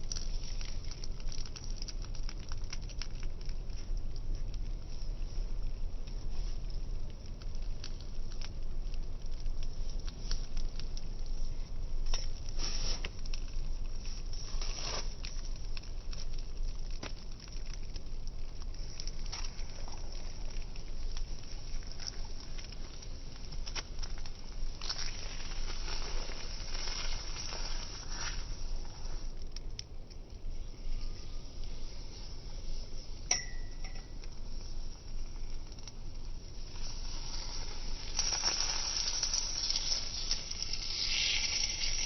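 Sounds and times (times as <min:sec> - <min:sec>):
burning cardboard crackling: 0:00.0 - 0:42.0.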